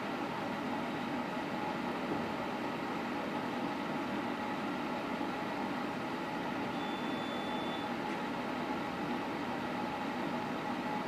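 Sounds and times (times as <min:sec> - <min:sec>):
faint hum: 0:00.0 - 0:11.0
space heater fan whir: 0:00.0 - 0:11.0.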